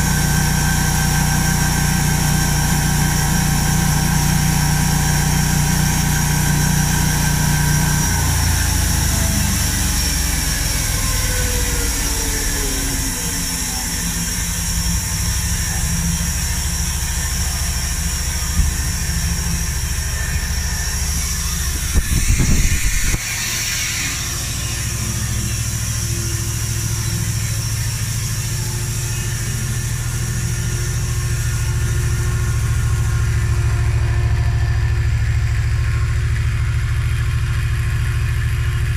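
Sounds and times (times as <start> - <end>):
whine falling in pitch: 0.0 - 37.6
sawmill machine hum: 0.0 - 38.9.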